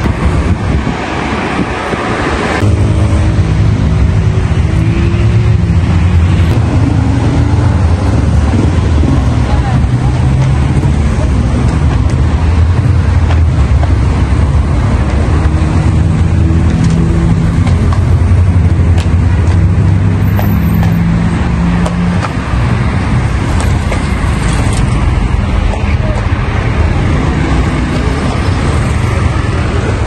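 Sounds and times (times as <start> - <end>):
cars and motorbikes driving past: 0.0 - 30.0.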